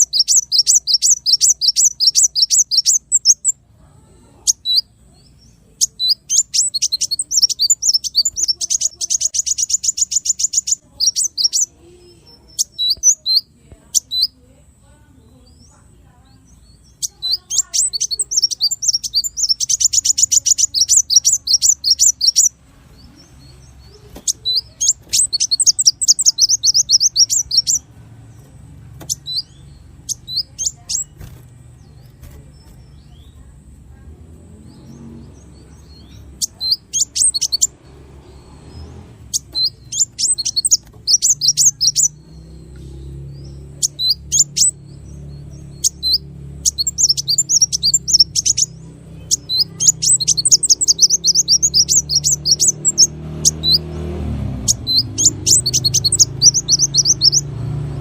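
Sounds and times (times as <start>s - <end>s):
small songbird singing: 0.0s - 58.0s.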